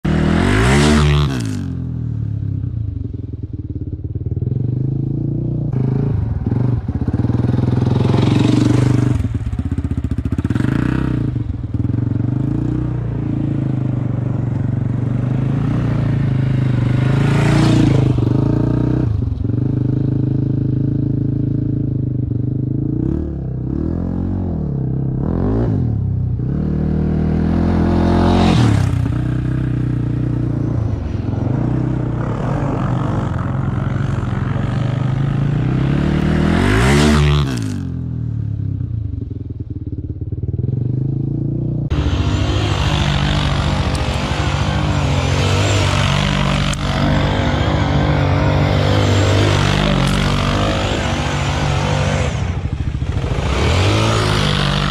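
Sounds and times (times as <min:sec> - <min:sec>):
quad bike engines revving: 0:00.0 - 0:02.8, 0:03.9 - 0:39.2, 0:40.6 - 0:54.9.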